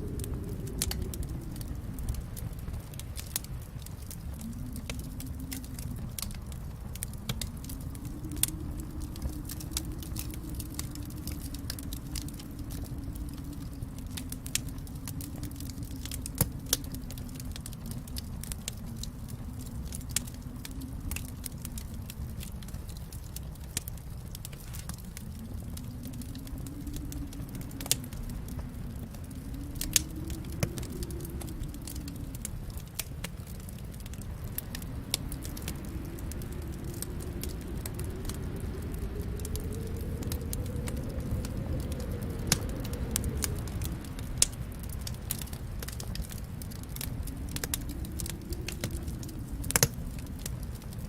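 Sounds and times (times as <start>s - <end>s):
fire popping: 0.0s - 51.0s
wood fire crackling: 0.0s - 51.0s.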